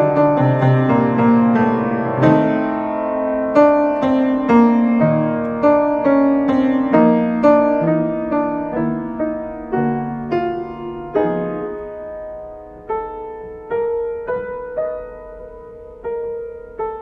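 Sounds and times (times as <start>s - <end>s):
slow solo piano chords: 0.0s - 17.0s.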